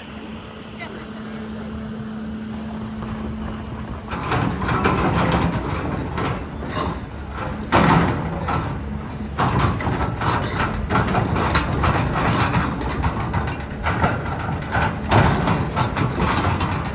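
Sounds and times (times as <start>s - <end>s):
heavy diesel engine running: 0.0s - 16.9s.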